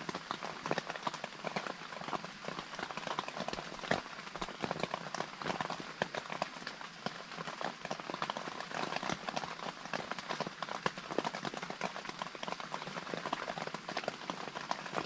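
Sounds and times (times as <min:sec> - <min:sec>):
rain tapping on tent fabric: 0:00.0 - 0:15.0.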